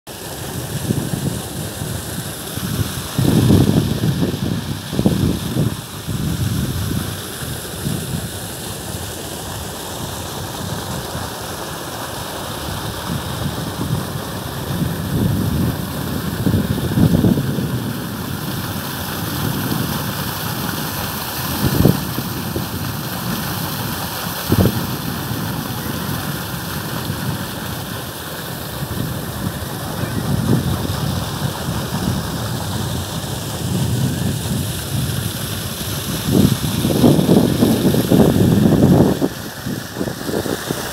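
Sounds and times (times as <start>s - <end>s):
wind buffeting microphone: 0.5s - 11.4s, 12.5s - 40.9s.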